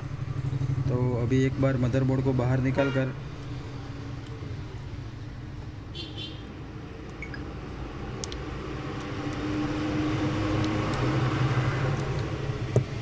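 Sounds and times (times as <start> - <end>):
passing motor vehicle hum: 0.0 - 5.9, 6.5 - 13.0.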